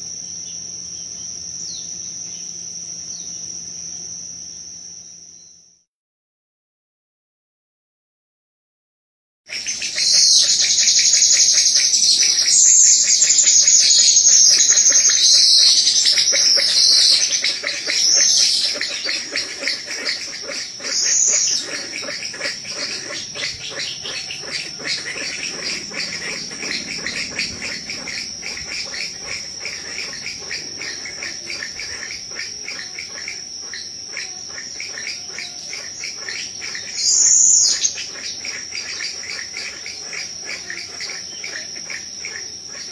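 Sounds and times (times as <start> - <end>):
insects trilling: 0.0 - 5.9, 9.5 - 42.9
bird chirps: 0.4 - 5.7, 9.5 - 42.9.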